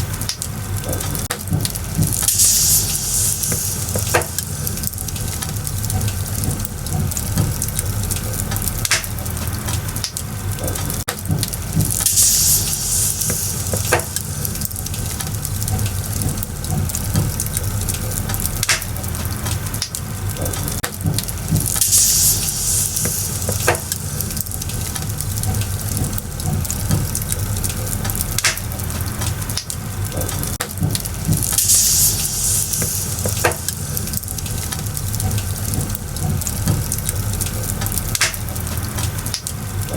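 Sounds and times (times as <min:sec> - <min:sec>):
fire hissing: 0:00.0 - 0:39.9
firewood popping: 0:00.0 - 0:39.9
wood fire crackling: 0:00.0 - 0:39.9.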